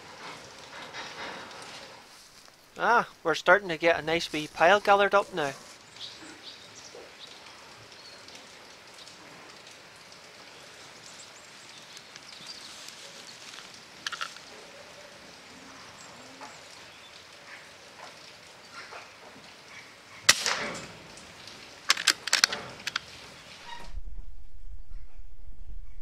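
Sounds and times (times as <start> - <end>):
rain on a roof: 0.0 - 23.8.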